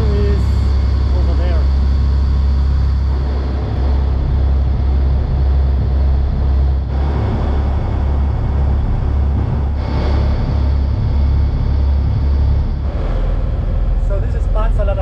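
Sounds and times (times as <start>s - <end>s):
ferry engines droning: 0.0s - 15.0s.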